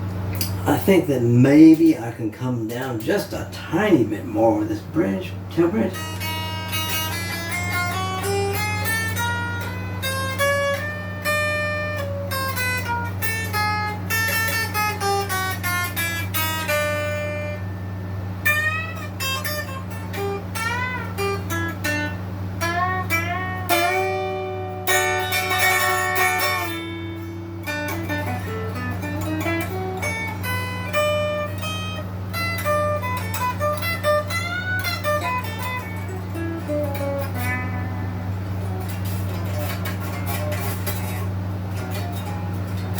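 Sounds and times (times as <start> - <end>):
amplifier low hum: 0.0 - 42.9
electric guitar playing: 2.7 - 42.9.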